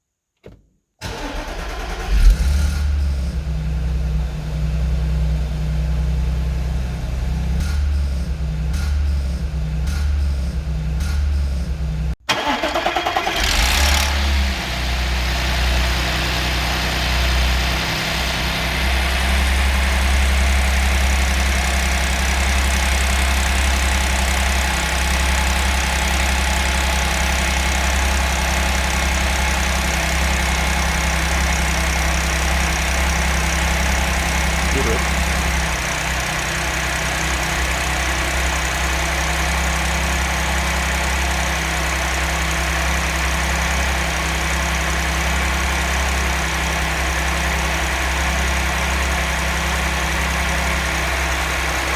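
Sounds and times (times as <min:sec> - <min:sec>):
car engine starting and idling: 0:00.4 - 0:51.9.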